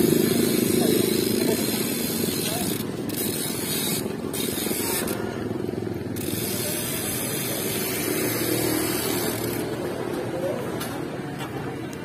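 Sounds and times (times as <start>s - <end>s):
bicycle freewheel ticking: 0.0s - 9.8s
wind: 0.0s - 12.0s.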